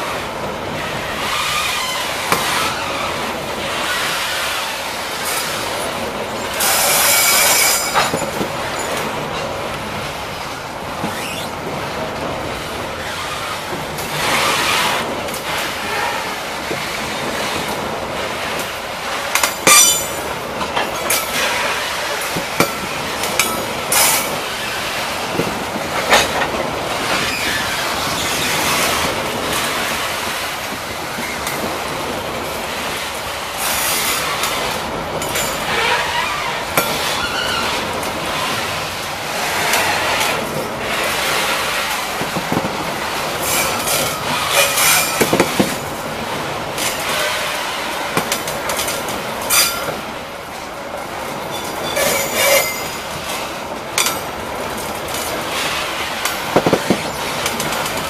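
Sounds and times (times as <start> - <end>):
freight train wheels rumbling: 0.0 - 58.0
wheels clacking over rail joints: 0.0 - 58.0.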